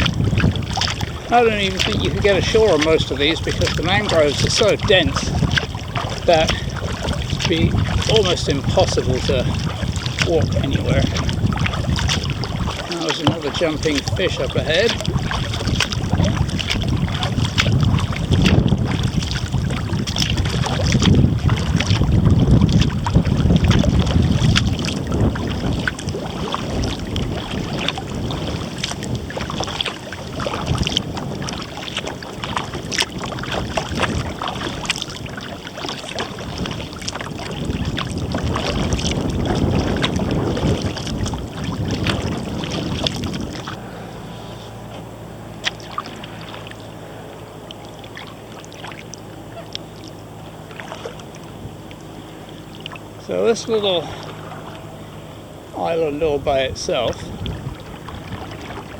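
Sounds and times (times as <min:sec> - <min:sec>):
paddle strokes splashing water: 0:00.0 - 0:58.9
wind rumbling on microphone: 0:00.0 - 0:58.9.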